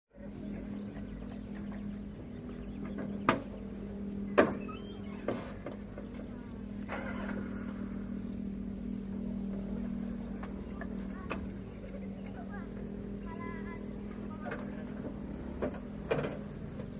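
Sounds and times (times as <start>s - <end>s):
diesel engine running: 0.1s - 16.9s.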